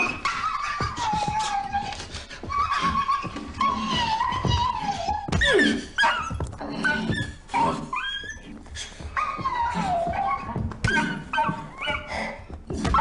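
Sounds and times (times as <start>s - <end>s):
dog yelping and whining: 0.0s - 13.0s.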